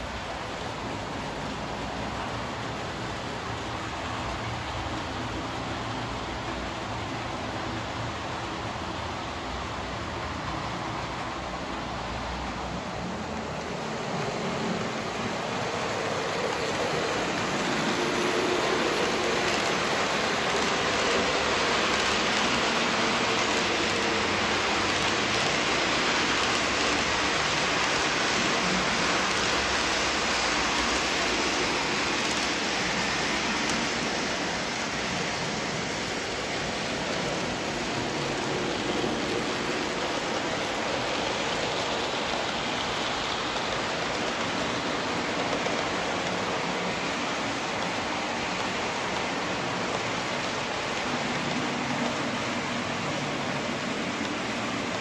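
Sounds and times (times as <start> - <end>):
model train wheels on rails: 0.0 - 55.0.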